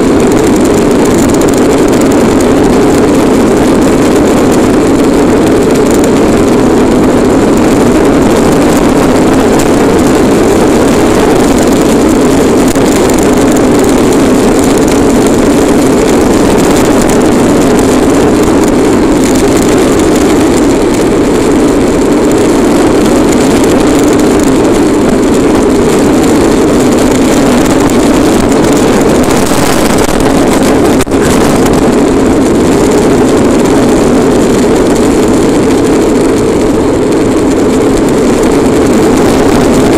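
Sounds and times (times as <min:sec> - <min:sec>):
plastic wheels rolling on asphalt: 0:00.0 - 0:39.9
wind rushing: 0:00.0 - 0:39.9.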